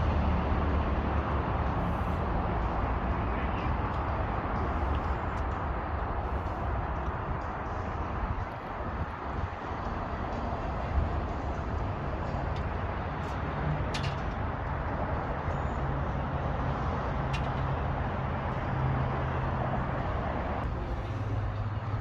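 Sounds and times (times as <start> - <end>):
wind and water noise: 0.0 - 22.0.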